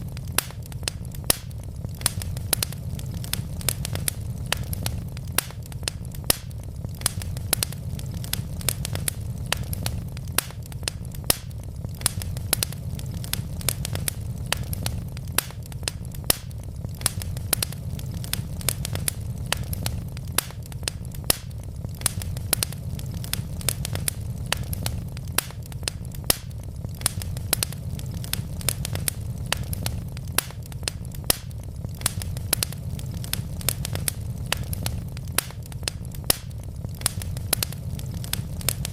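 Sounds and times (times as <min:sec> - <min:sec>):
logs crackling and popping: 0:00.0 - 0:38.9
low rumble of fire: 0:00.0 - 0:38.9.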